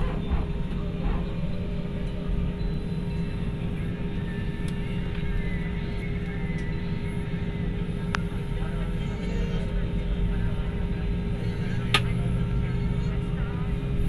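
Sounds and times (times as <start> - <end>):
constant tone: 0.0 - 14.0
jet engines idling drone: 0.0 - 14.0.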